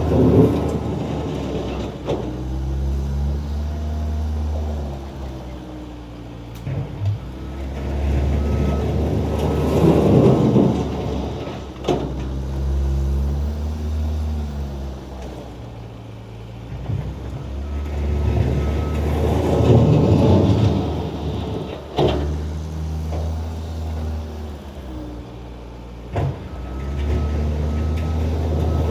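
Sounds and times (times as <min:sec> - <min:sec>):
skid steer engine running: 0:00.0 - 0:28.9.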